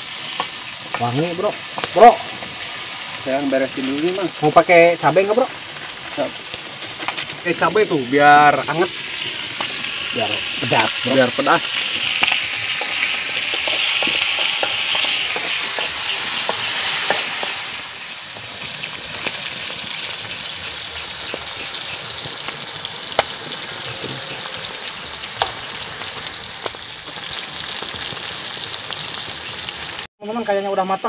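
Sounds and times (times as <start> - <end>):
eels sizzling in hot oil: 0.0 - 30.1
oil popping: 0.0 - 30.1.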